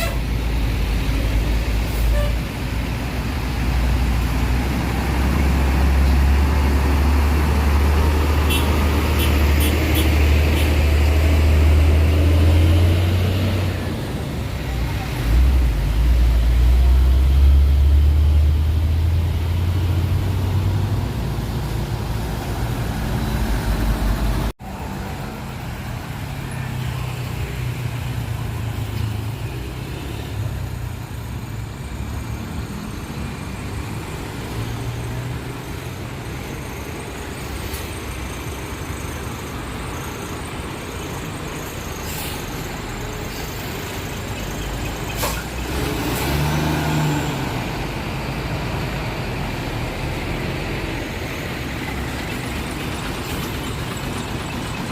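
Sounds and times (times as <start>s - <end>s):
heavy engine: 0.0s - 54.9s
road traffic passing: 0.0s - 54.9s.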